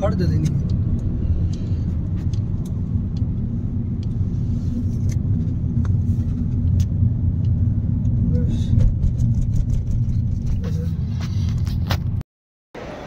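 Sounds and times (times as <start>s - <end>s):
car engine and road noise: 0.0s - 12.2s, 12.8s - 13.0s.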